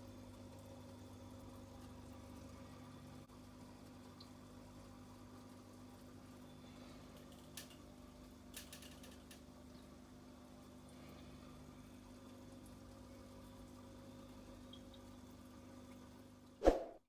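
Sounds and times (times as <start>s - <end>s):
air pump humming faintly: 0.0s - 16.3s.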